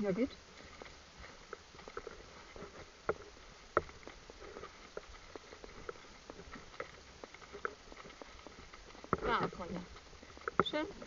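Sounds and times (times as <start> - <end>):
horse hooves on gravel: 0.0 - 11.0.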